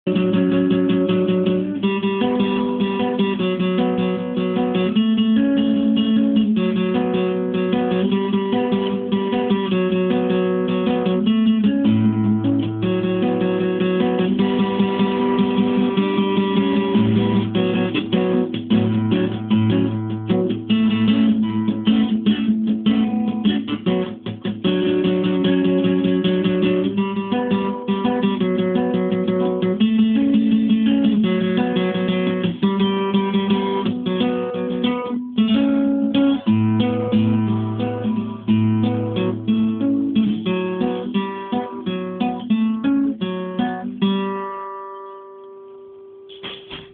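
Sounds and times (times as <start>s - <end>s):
acoustic guitar strummed and picked: 0.0s - 46.9s.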